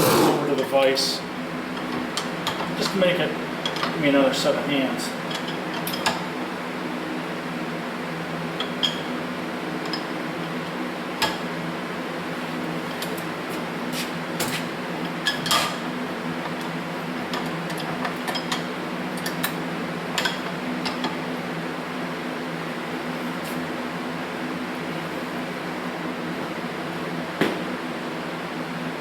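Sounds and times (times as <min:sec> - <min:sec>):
fan hum: 0:00.0 - 0:29.0.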